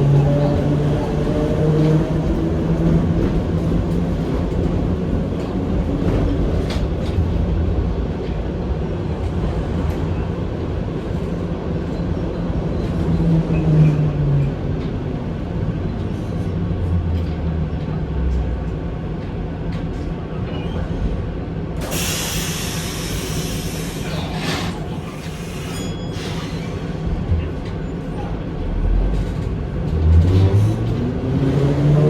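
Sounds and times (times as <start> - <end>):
tram rumbling along track: 0.0 - 32.0.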